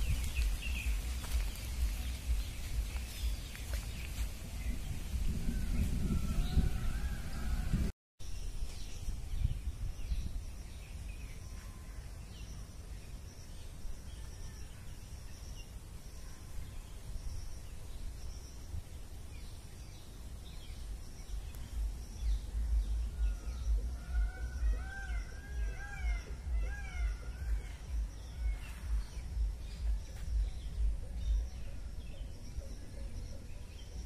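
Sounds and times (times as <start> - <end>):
wind rumble on microphone: 0.0 - 12.4, 13.1 - 34.0
birds chirping: 0.0 - 34.0.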